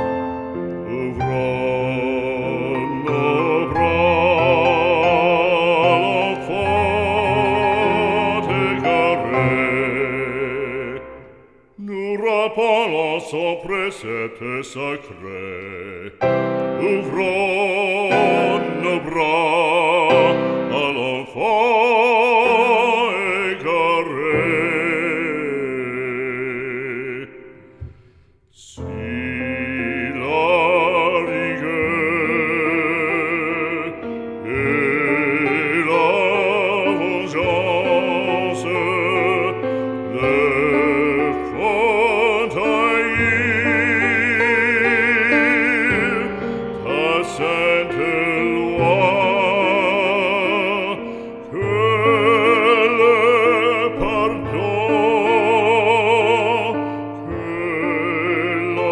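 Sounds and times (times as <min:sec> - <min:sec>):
operatic singing with vibrato: 0:00.0 - 0:58.9.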